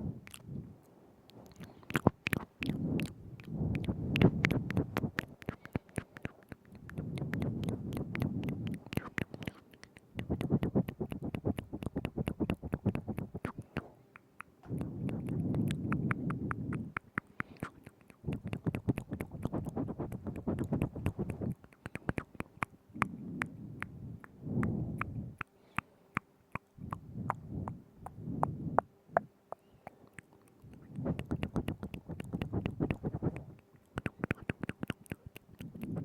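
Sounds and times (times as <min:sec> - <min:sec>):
wet mouth clicks and smacks: 0:00.2 - 0:00.6, 0:01.3 - 0:36.0.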